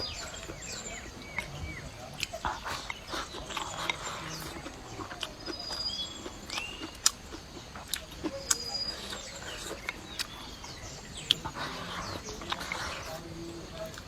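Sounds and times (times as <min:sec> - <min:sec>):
birds chirping: 0:00.0 - 0:14.0
eating clicks and crunches: 0:00.0 - 0:14.0.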